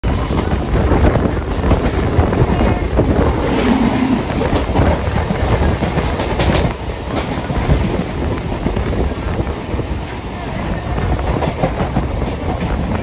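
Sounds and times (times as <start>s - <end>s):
rumble of passing train coaches: 0.0s - 13.0s.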